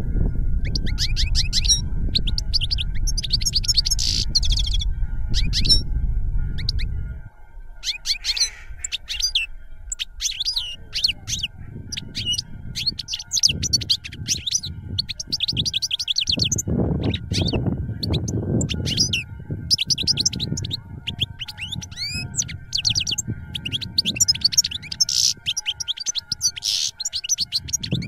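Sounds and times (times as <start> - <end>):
low rumble: 0.0 - 24.1
small birds chirping: 0.6 - 5.8, 7.8 - 28.0.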